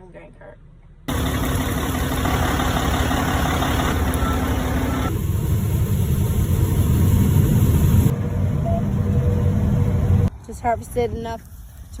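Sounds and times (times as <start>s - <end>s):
tractor engine rumbling: 1.1s - 12.0s.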